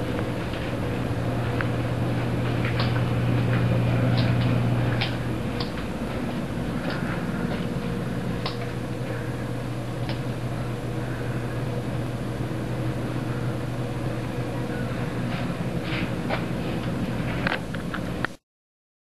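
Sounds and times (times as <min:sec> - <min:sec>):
low mechanical hum: 0:00.0 - 0:18.4.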